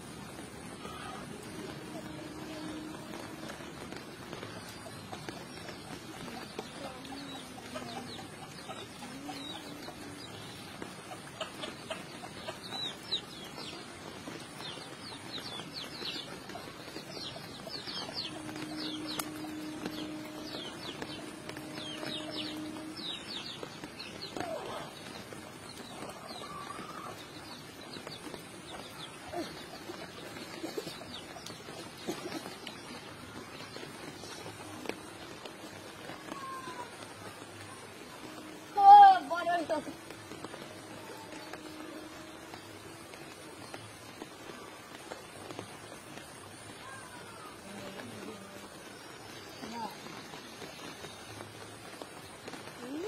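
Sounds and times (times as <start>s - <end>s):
outdoor background hiss: 0.0s - 53.0s
small birds chirping: 0.7s - 53.0s.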